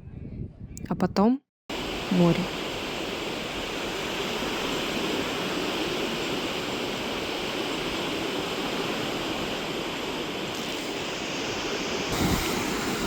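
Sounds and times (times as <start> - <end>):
surf waves washing onto beach: 1.7 - 13.0.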